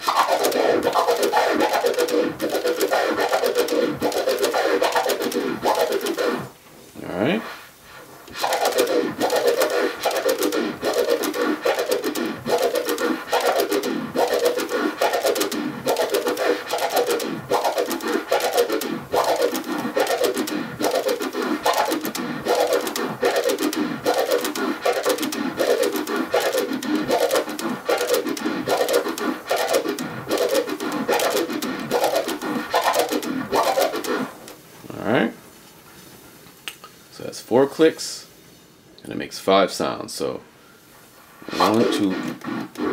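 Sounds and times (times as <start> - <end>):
vinyl record scratching: 0.0 - 34.5, 41.4 - 42.9.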